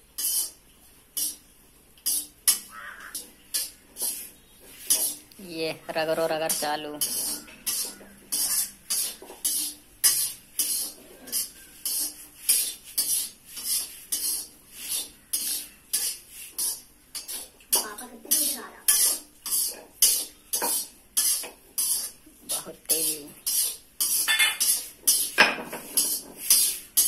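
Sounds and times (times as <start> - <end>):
metal ladle scraping a wok: 0.1 - 1.4, 2.0 - 5.3, 6.1 - 27.0.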